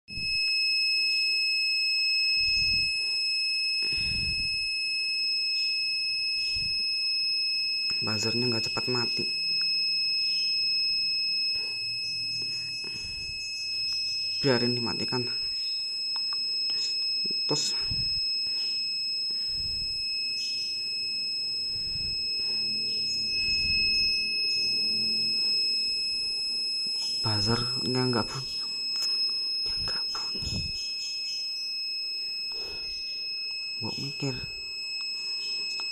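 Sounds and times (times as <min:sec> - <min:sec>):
parking sensor buzzer tone: 0:00.1 - 0:35.9.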